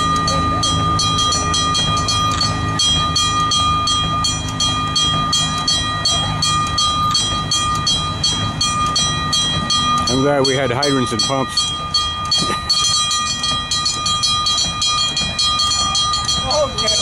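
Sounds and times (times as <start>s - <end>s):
pumping machinery rumble: 0.0s - 17.0s.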